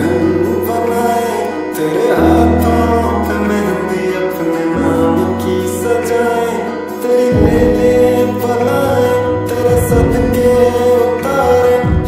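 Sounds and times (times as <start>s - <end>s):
background music melody: 0.0s - 12.0s
held bass notes: 0.0s - 12.0s.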